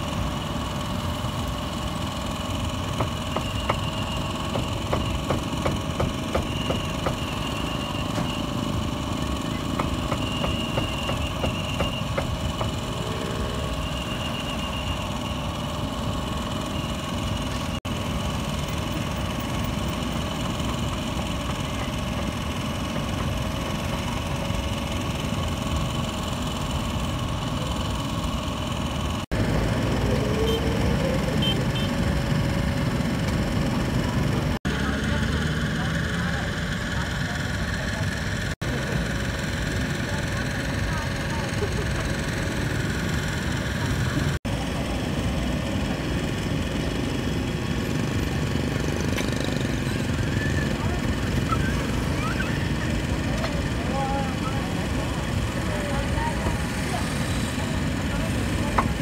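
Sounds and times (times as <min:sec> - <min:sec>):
idling traffic engines: 0:00.0 - 0:59.0.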